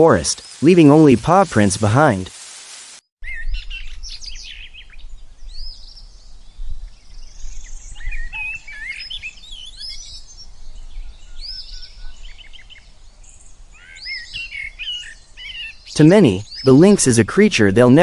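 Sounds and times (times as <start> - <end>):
songbirds chirping and singing: 3.2 - 18.0.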